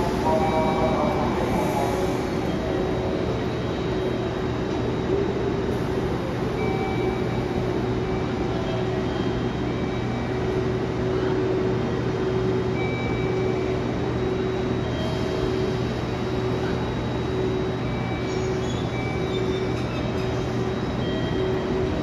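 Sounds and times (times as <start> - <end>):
electric train humming: 0.0 - 22.0
station hubbub: 0.0 - 22.0.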